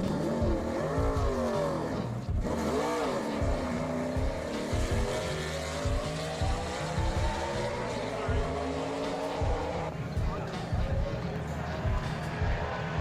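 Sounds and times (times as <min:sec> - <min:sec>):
race cars howling past: 0:00.0 - 0:13.0.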